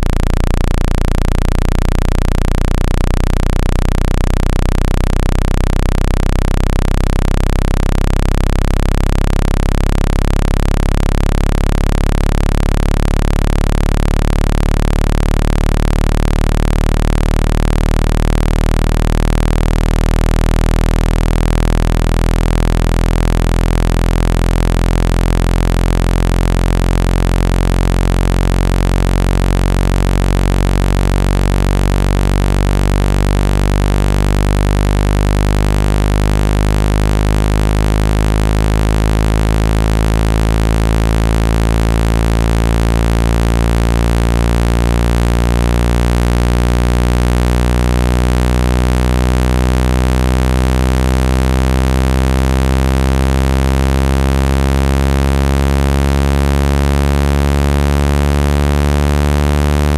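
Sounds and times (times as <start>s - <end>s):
low buzzing electronic tone: 0.0s - 59.9s.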